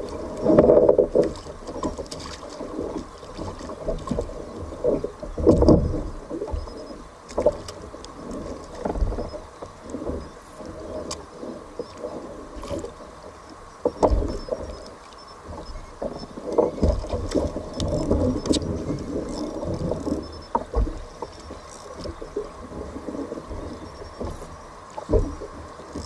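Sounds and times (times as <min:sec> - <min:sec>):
knocks and bumps on hull: 0:00.0 - 0:13.0, 0:13.8 - 0:14.9, 0:15.5 - 0:26.0
waves splashing against kayak hull: 0:00.0 - 0:26.0.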